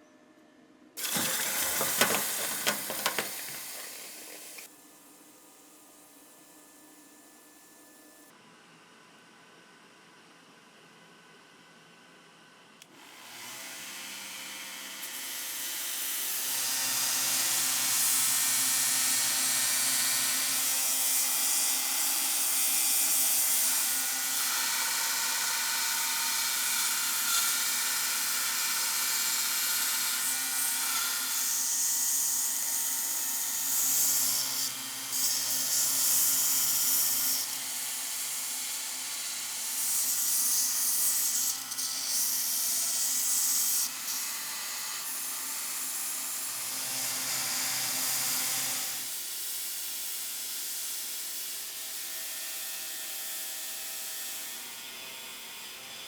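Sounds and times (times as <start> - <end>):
small power tool running: 1.0 - 4.7, 13.0 - 55.1.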